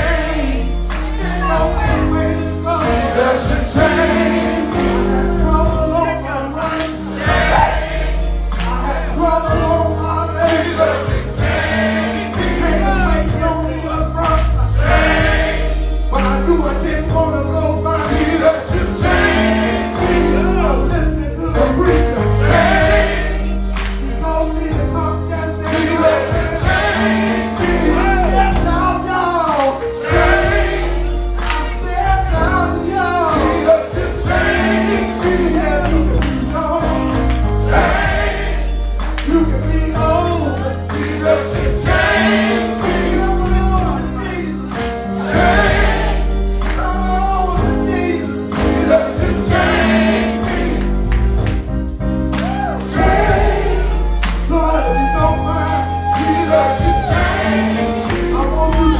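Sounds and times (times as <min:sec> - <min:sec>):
gospel choir with band: 0:00.0 - 0:58.9.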